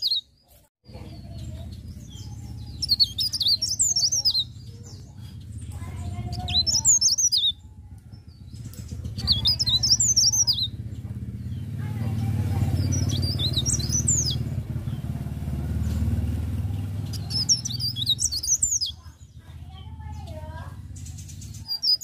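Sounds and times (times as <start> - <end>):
small bird twittering: 0.0 - 22.0
steady low rumble: 0.9 - 21.8.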